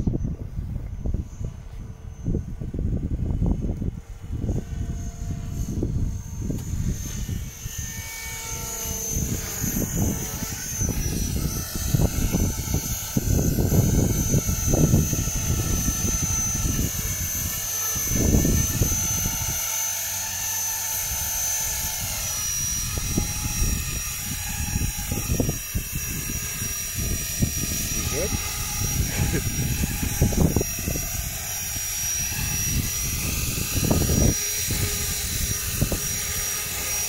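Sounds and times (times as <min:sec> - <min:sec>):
model helicopter rotor whine: 0:00.0 - 0:37.0.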